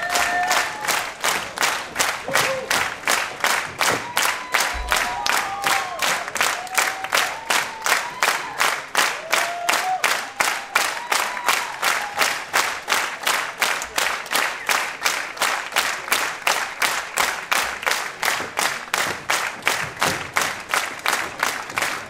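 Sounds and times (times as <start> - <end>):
audience clapping in unison: 0.0 - 22.0.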